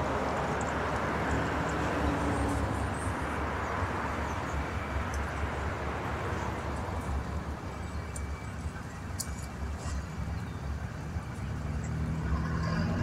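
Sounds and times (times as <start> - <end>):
street traffic passing: 0.0 - 13.0.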